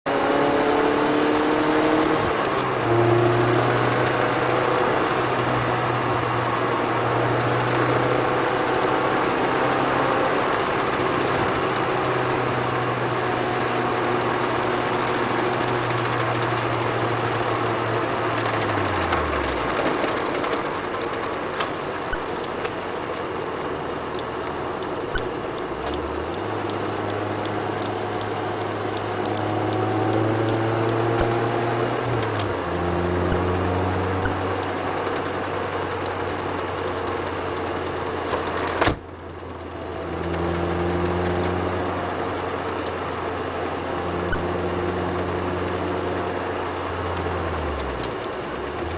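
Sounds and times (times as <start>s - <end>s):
car engine hum: 0.1s - 48.9s.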